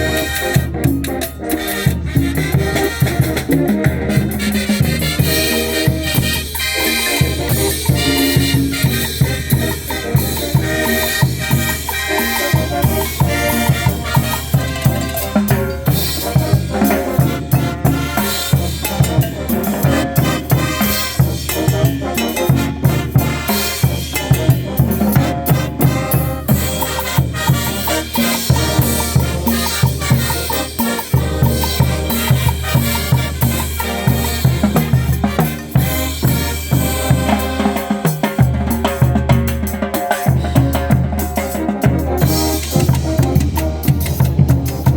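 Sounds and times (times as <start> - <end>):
drum kit beat: 0.0 - 44.9
latin dance music with horns: 0.0 - 44.9.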